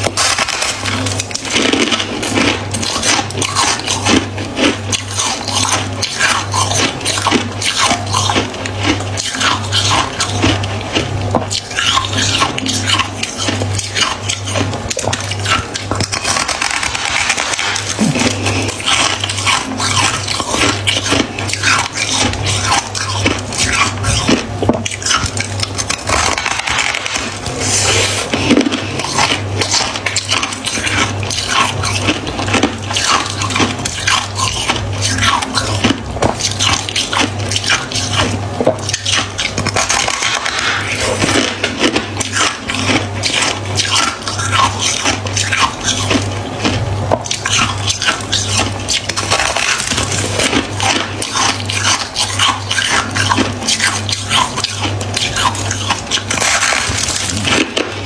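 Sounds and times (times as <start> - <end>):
freezer frost crunching: 0.0 - 58.0
low steady hum: 0.0 - 58.0.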